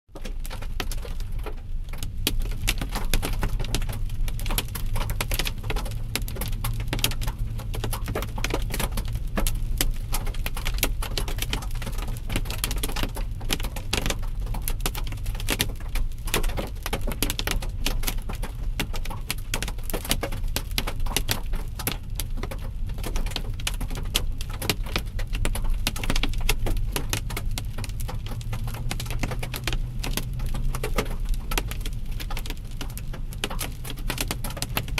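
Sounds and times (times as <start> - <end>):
engine and road noise: 0.1 - 34.9
hailstones pelting a vehicle: 0.1 - 34.9.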